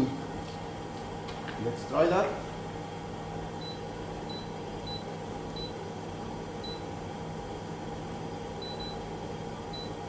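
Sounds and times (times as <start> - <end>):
coffee roaster fan humming: 0.0 - 10.0.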